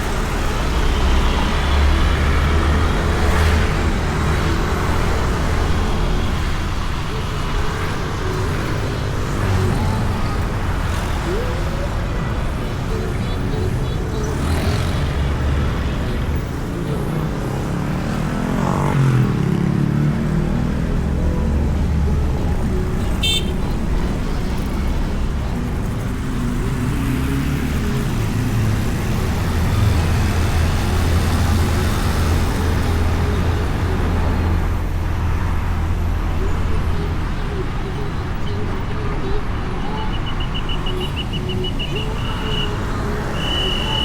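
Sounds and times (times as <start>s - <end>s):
wind and road rush: 0.0s - 44.0s.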